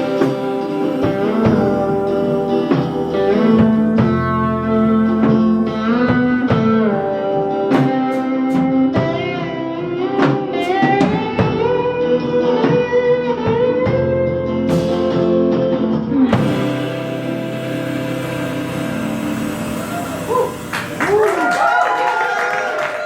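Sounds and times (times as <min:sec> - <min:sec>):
bass guitar: 0:00.0 - 0:22.8
drums: 0:00.0 - 0:23.0
electric guitar lead: 0:00.0 - 0:23.0.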